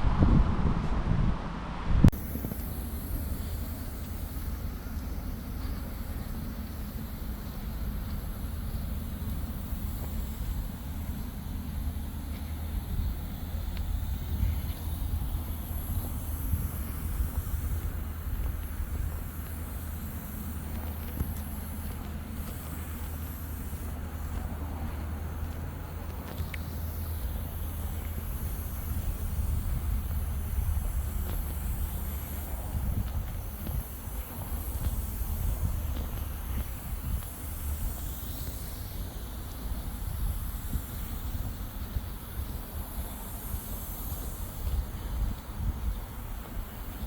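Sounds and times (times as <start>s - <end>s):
wind buffeting microphone: 0.0s - 47.0s
faint high hiss: 2.1s - 47.0s.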